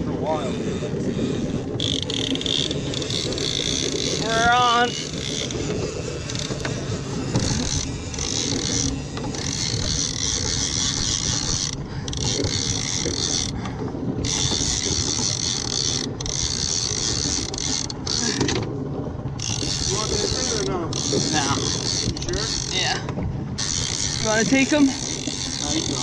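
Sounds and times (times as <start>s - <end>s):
fishing reel cranking: 0.0s - 18.8s, 19.4s - 26.0s
boat low rumble: 0.0s - 26.0s.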